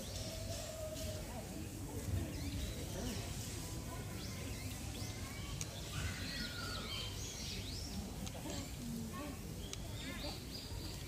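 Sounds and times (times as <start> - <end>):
small birds chirping: 1.7 - 11.0.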